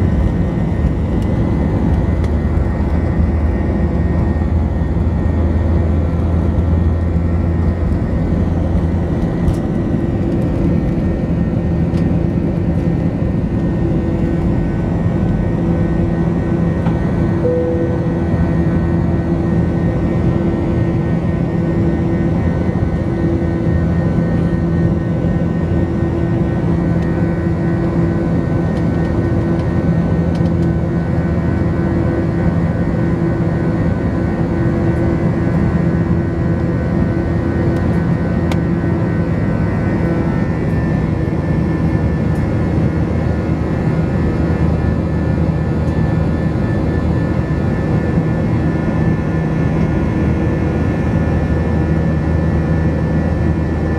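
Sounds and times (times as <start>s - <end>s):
airflow rushing in cabin: 0.0s - 53.9s
jet engine drone and whine: 0.0s - 53.9s.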